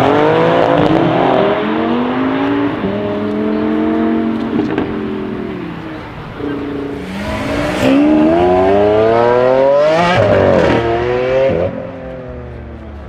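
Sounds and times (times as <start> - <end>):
car engine accelerating hard: 0.0 - 11.8.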